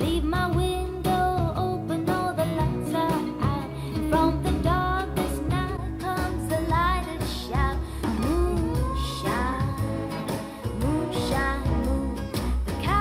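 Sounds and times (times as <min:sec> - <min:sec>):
song with singing voice: 0:00.0 - 0:13.0.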